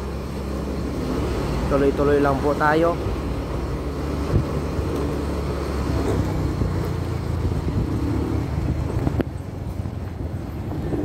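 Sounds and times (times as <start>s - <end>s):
road and wind noise: 0.0s - 11.0s
vehicle engine rumbling: 0.0s - 11.0s.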